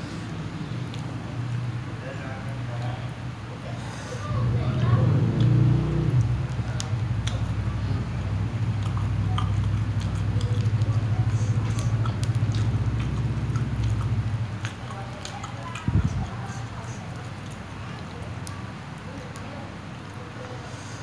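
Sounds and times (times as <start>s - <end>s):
chewing noodles: 0.0s - 21.0s.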